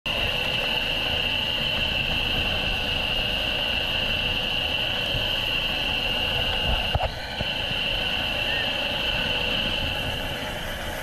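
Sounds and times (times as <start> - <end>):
helicopter rotor and engine: 0.1 - 11.0
high helicopter whine: 0.1 - 11.0.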